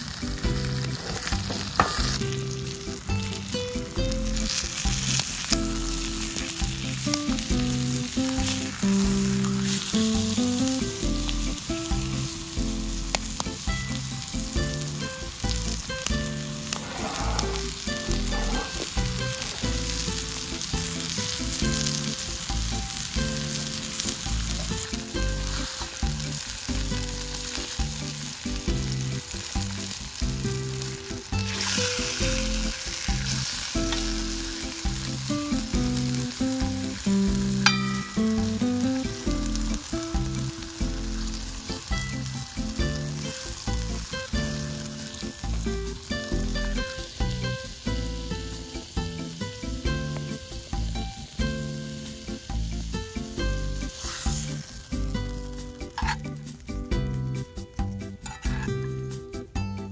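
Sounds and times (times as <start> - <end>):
chicken sizzling in a frying pan: 0.0 - 59.6
background music: 0.0 - 59.9.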